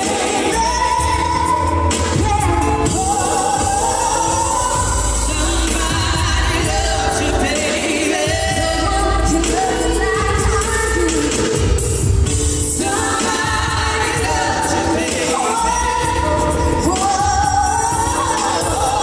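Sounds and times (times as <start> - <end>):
voices singing: 0.0 - 11.4, 12.8 - 19.0
live band music: 0.0 - 19.0.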